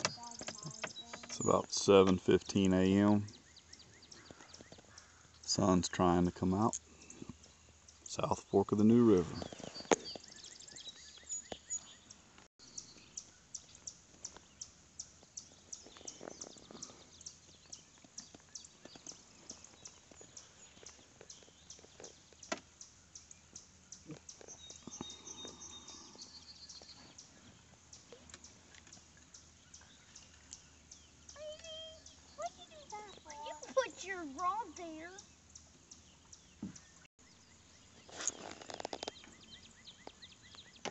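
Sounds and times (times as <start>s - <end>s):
birds calling: 0.0s - 40.9s.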